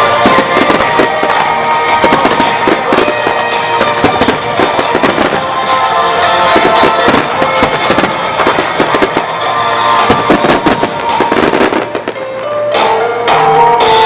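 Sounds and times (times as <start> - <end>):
fireworks bursts and crackling: 0.0 - 14.0
music: 0.0 - 14.0.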